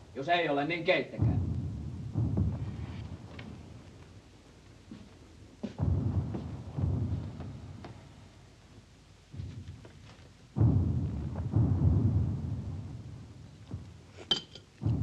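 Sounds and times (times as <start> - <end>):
distant artillery booms: 1.2 - 15.0.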